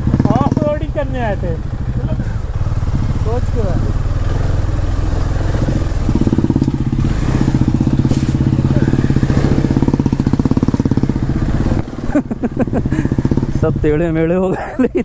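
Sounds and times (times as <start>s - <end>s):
motorcycle engine at low speed: 0.0s - 15.0s.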